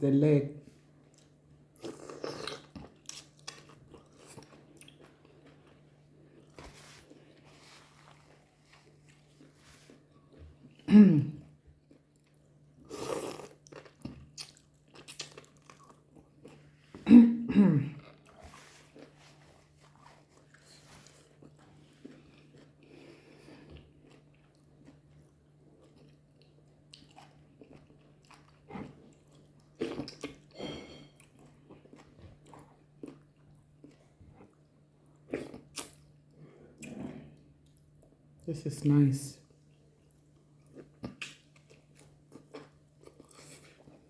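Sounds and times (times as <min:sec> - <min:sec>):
person chewing food: 0:01.0 - 0:17.0, 0:17.9 - 0:38.4, 0:39.5 - 0:44.0.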